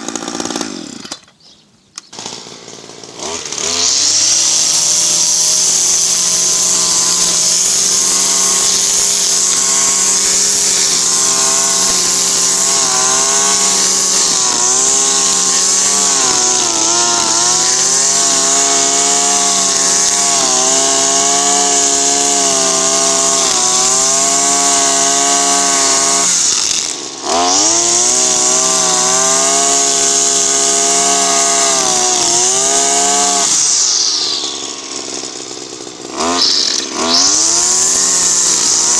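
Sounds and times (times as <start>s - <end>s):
brushcutter cutting grass: 0.0s - 1.3s, 2.0s - 38.9s.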